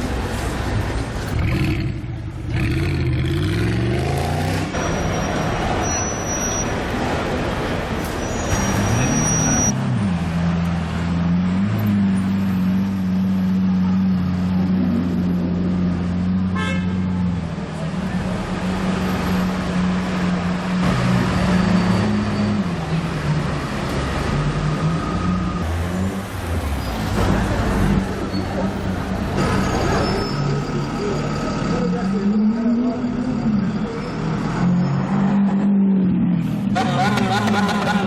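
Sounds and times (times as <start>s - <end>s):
street traffic noise: 0.0s - 38.0s.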